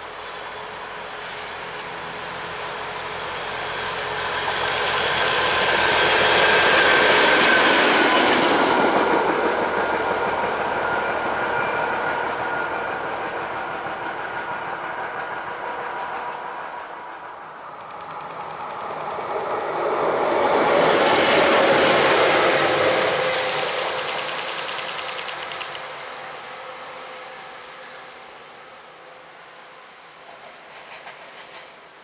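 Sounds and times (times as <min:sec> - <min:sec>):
wheels rumbling on rail: 0:00.0 - 0:32.0
locomotive passing: 0:00.9 - 0:31.9.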